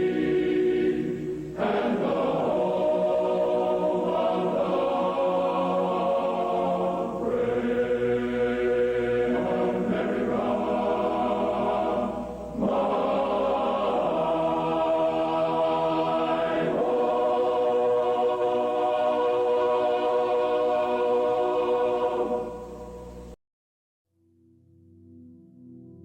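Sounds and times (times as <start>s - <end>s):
solemn choral music: 0.0s - 23.4s.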